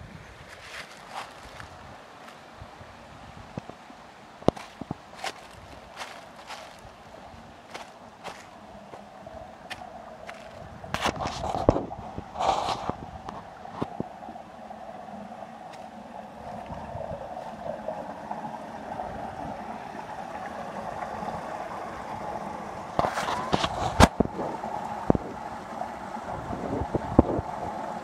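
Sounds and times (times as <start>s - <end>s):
creek water running over rocks: 0.0s - 28.0s.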